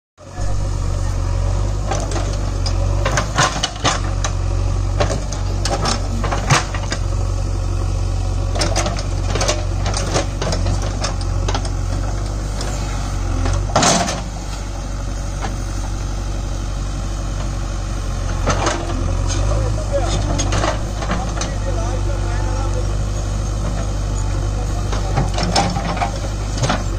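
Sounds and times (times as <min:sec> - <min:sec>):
diesel engine running under load: 0:00.2 - 0:26.9.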